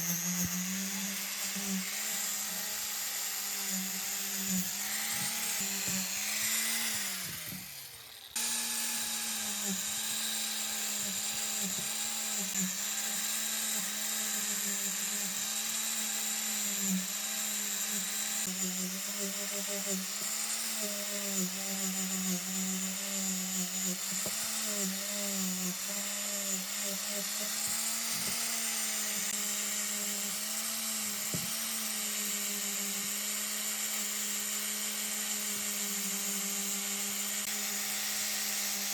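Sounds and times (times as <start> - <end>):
high-speed electric power tool: 0.0 - 38.9.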